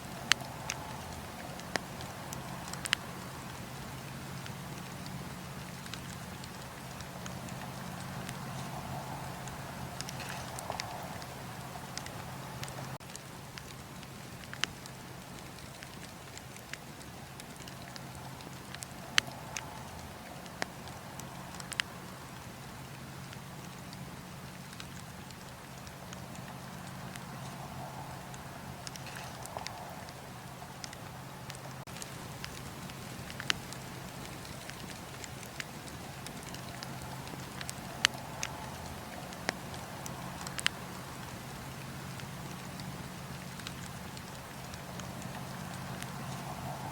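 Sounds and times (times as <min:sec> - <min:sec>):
campfire wood crackling and popping: 0:00.0 - 0:46.9
steady low hiss: 0:00.0 - 0:46.9.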